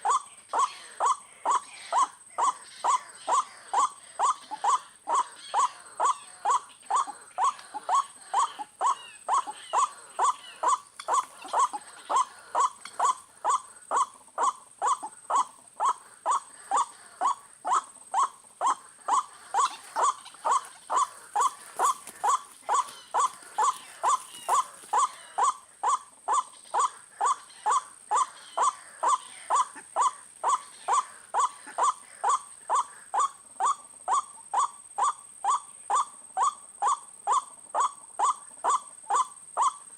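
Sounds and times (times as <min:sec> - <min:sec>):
bird harsh repeated call: 0:00.0 - 0:39.9.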